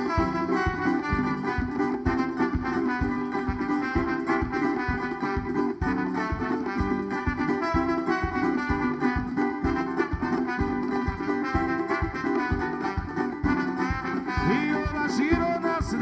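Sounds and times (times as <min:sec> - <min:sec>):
steady drumbeat: 0:00.0 - 0:16.0.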